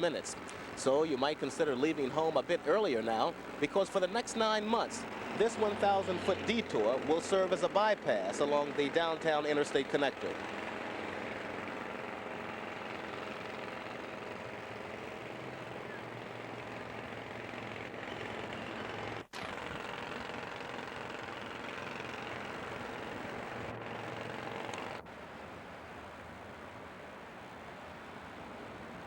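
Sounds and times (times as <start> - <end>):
highway traffic passing: 0.0 - 29.0.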